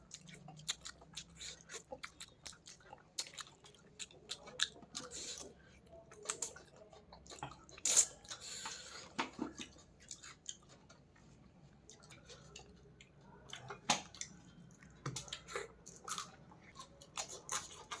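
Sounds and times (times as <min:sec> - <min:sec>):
person chewing: 0:00.0 - 0:11.1, 0:11.8 - 0:18.0.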